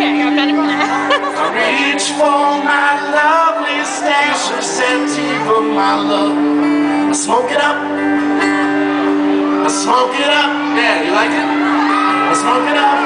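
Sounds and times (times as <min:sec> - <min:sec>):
guitar: 0:00.0 - 0:13.0
keyboard: 0:00.0 - 0:13.0.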